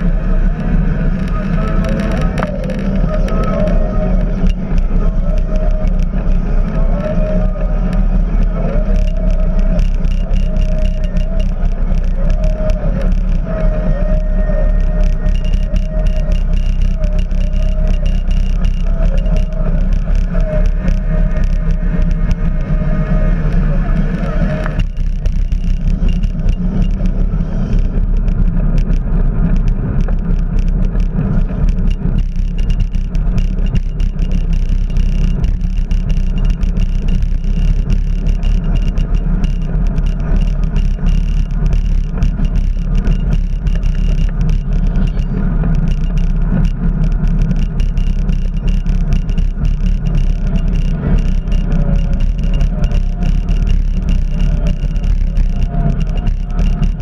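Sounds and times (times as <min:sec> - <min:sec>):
bicycle tyre and road noise: 0:00.0 - 0:57.0
small rattles and clicks: 0:00.0 - 0:57.0
wind rumble on microphone: 0:00.0 - 0:57.0.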